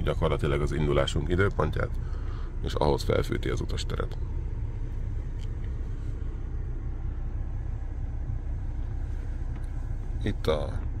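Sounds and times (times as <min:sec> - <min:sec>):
low rumble inside car: 0:00.0 - 0:11.0.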